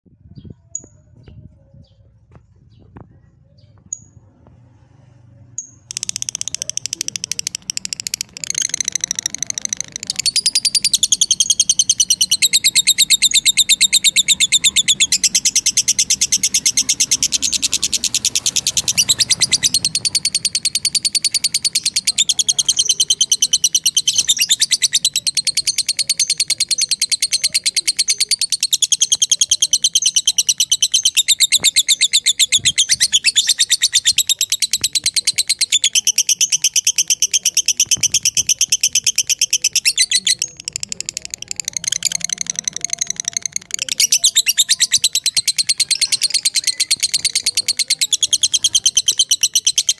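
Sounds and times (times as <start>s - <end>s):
bird chattering trill: 5.6s - 49.9s.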